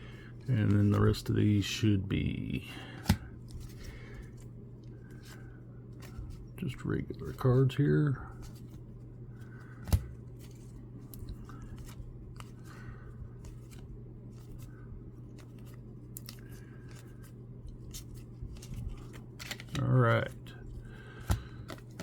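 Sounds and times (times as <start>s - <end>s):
steady low hum: 0.0s - 22.0s
cards being leafed through: 0.4s - 22.0s.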